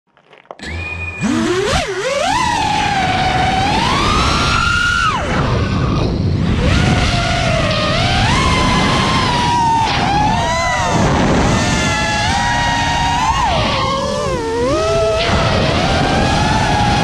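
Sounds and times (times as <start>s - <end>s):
quadcopter motors whining: 0.6s - 17.0s.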